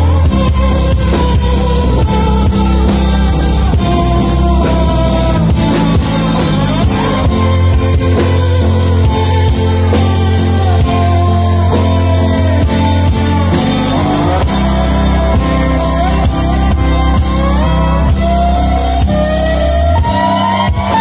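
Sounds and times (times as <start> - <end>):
bass guitar: 0.0 - 21.0
drum kit: 0.0 - 21.0
electric guitar lead: 0.0 - 21.0.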